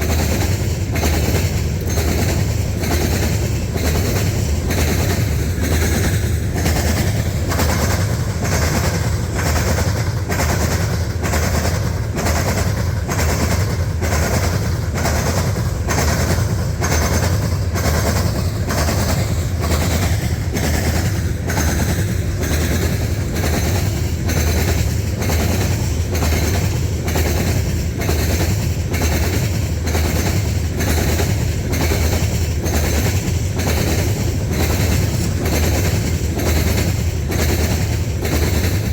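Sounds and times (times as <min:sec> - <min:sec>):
freight train rumbling: 0:00.0 - 0:38.9
wheels clicking over rail joints: 0:00.0 - 0:38.9.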